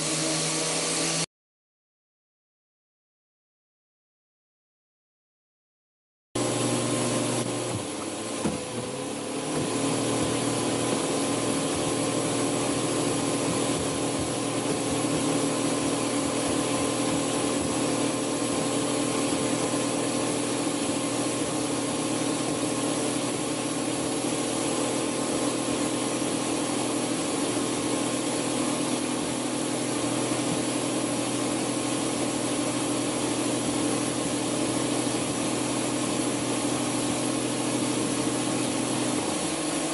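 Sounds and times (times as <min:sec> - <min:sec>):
blade shredding foam: 0:00.0 - 0:01.3, 0:06.4 - 0:39.9
power tool motor whining: 0:00.0 - 0:01.3, 0:06.4 - 0:39.9.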